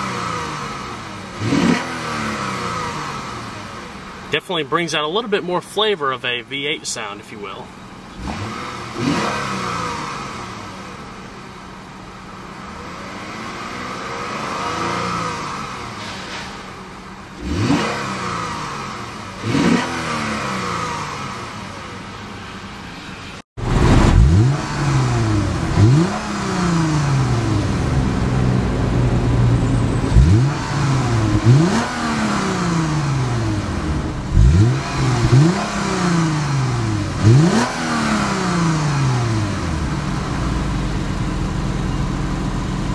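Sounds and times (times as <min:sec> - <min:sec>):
car engine revving: 0:00.0 - 0:04.4, 0:07.4 - 0:42.9.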